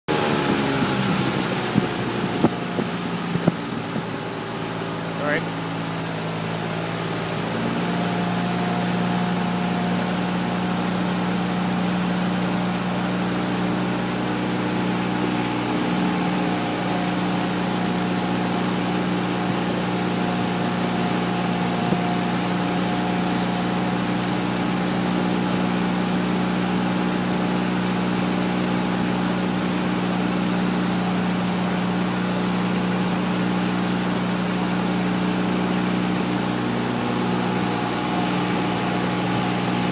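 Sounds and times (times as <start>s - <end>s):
boat motor humming: 0.1s - 39.9s.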